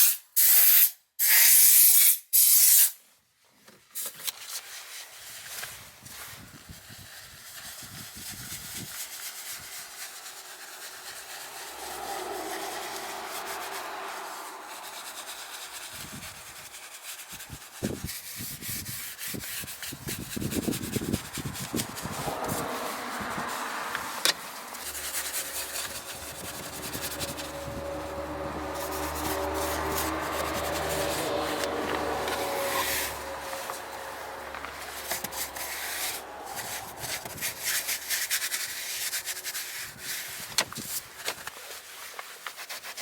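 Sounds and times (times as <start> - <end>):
brush scrubbing: 4.9 - 43.0.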